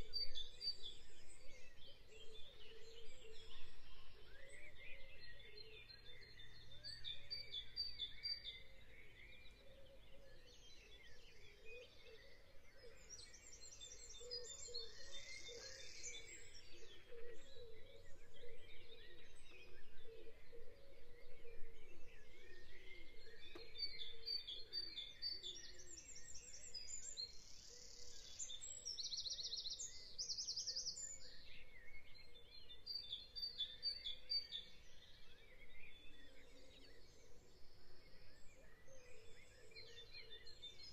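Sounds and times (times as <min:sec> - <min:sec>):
small birds singing: 0:00.0 - 0:40.9.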